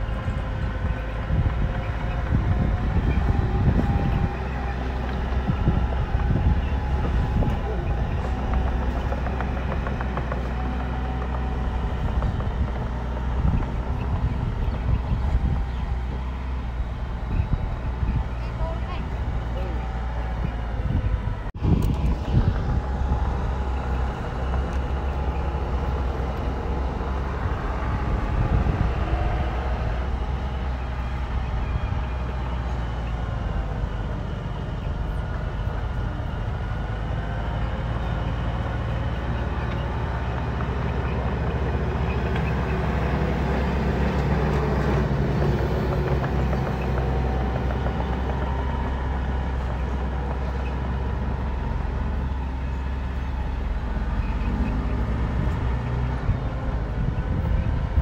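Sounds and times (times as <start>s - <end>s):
diesel engines of heavy machinery: 0.0s - 58.0s.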